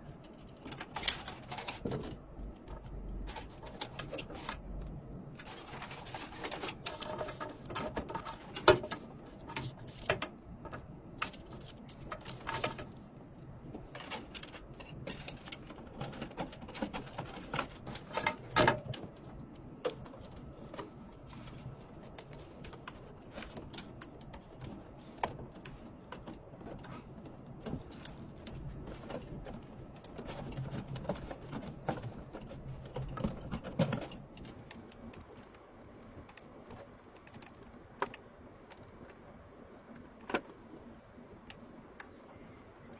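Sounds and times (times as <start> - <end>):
computer parts clicking and tapping: 0.0 - 42.9.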